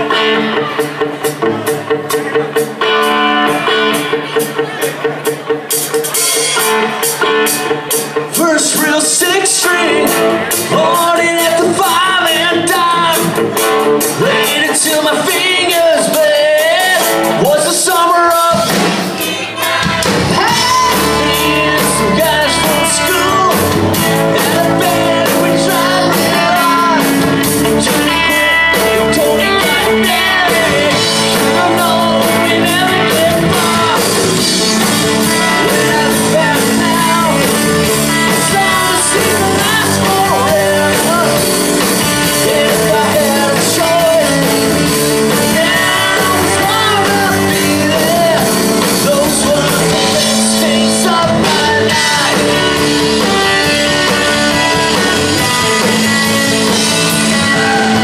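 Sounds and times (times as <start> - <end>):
drum kit: 0.0 - 58.0
electric guitars: 0.0 - 58.0
person singing: 5.7 - 58.0.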